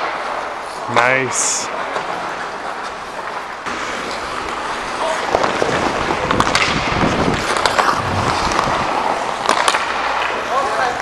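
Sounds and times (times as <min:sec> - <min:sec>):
hockey sticks and puck clacking: 0:00.0 - 0:11.0
ice skates scraping on ice: 0:00.0 - 0:11.0.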